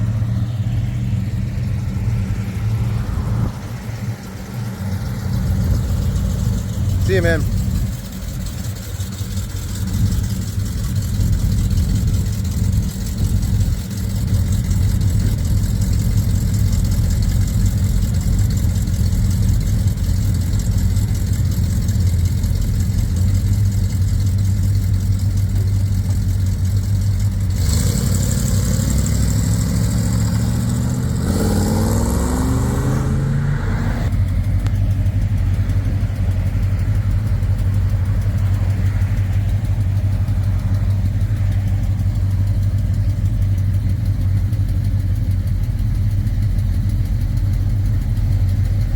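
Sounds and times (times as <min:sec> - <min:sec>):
car engine revving: 0:00.0 - 0:48.9
car engines idling: 0:00.0 - 0:48.9.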